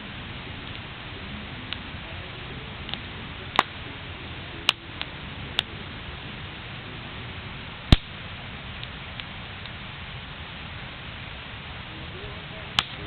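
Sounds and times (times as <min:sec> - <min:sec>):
bonfire crackling and popping: 0:00.0 - 0:13.0
fire hiss: 0:00.0 - 0:13.0.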